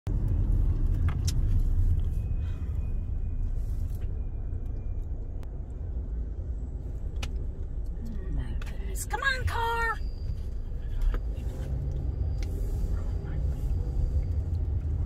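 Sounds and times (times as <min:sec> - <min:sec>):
car cabin low rumble: 0:00.1 - 0:15.0.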